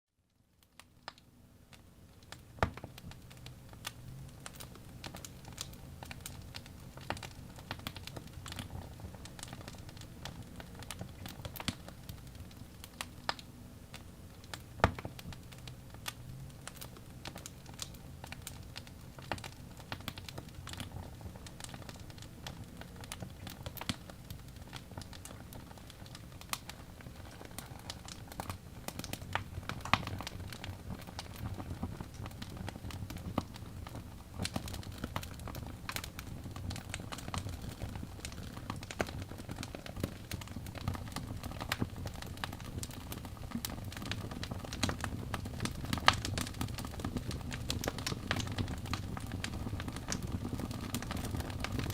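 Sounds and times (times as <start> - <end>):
wood fire crackling and popping: 0.6 - 51.9
low rumble of flames: 2.0 - 51.9.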